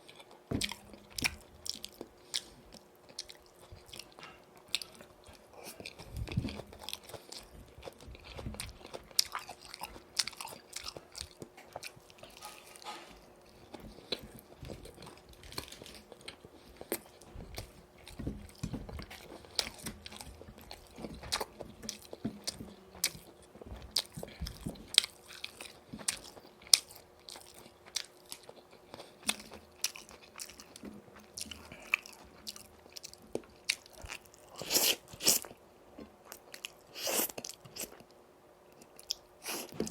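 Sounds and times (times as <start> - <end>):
chewing crunchy fried chicken: 0.0 - 39.9.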